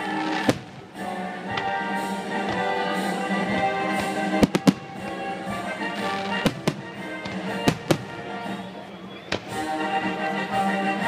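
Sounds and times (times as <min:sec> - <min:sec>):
steady music: 0:00.0 - 0:11.0.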